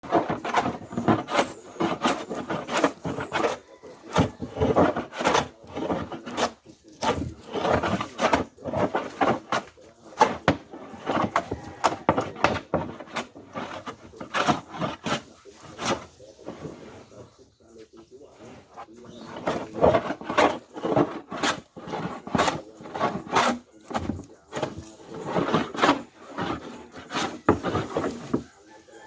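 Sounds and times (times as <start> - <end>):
wood plane shaving a board: 0.0 - 29.0.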